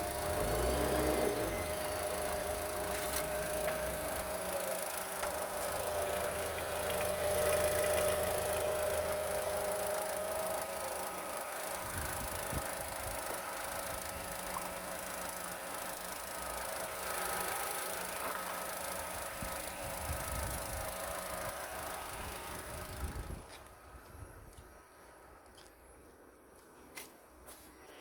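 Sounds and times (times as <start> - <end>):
car engine running: 0.0 - 23.4.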